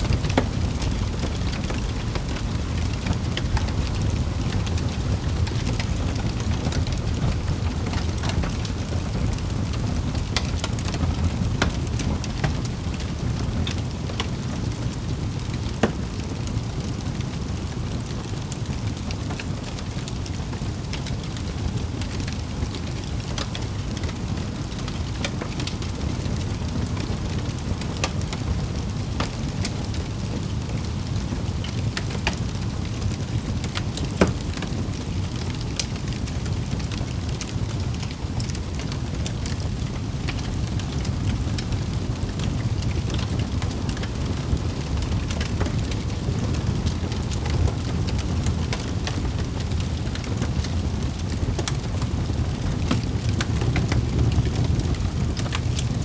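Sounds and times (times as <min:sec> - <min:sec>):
fire low rumble: 0:00.0 - 0:56.0
fire snapping and crackling: 0:00.0 - 0:56.0
loud fire pops: 0:00.0 - 0:56.0.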